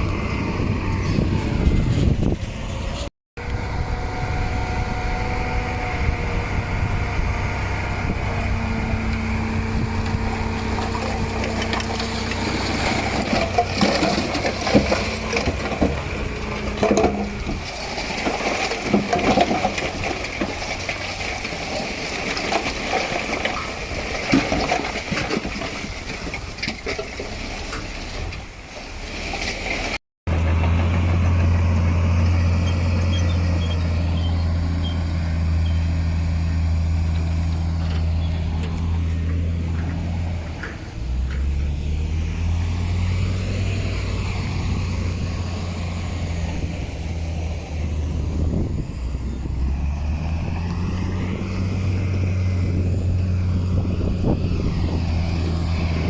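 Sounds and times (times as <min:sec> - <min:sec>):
heavy diesel machinery running: 0:00.0 - 0:56.0
soil and rock crunching: 0:00.0 - 0:56.0.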